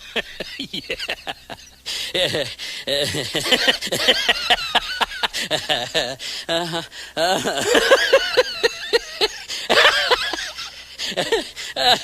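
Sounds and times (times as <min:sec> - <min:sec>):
laugh-like syllables: 0:00.0 - 0:12.0.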